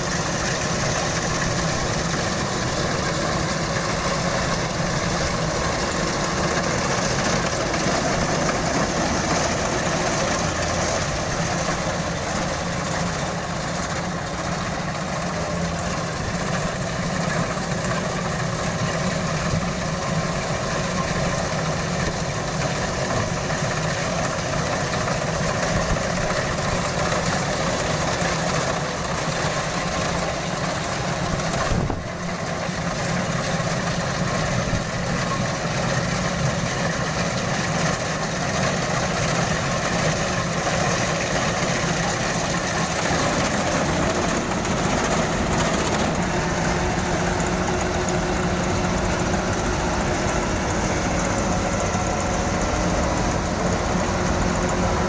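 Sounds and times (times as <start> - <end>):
combine harvester engine running: 0.0 - 55.0.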